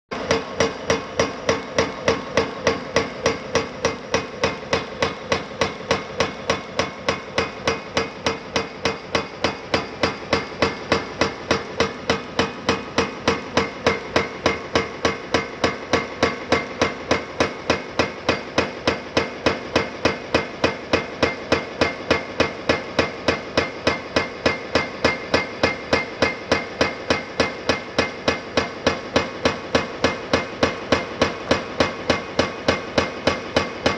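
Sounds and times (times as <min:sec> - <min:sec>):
hydraulic breaker hammering concrete: 0:00.1 - 0:33.9.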